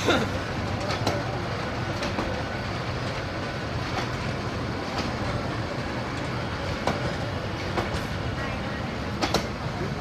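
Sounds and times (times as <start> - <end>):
train wheels rumbling on rails: 0.0 - 10.0
wheels clicking over rail joints: 0.6 - 8.4, 9.0 - 10.0.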